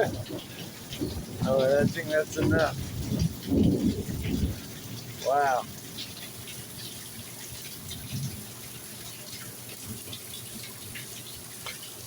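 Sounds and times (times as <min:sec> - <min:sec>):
steady rain falling: 0:00.0 - 0:12.0
water drips and splashes: 0:00.0 - 0:12.0.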